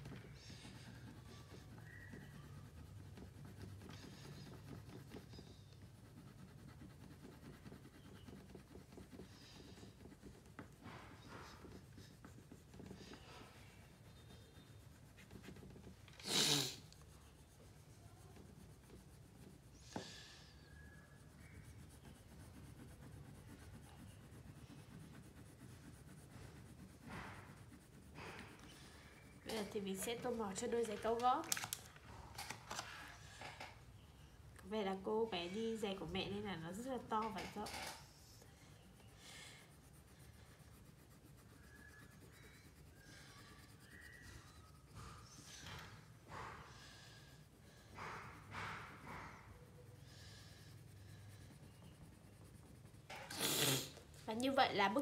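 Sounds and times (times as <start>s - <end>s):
crayon scratching on paper: 0.0s - 31.8s, 34.6s - 55.0s.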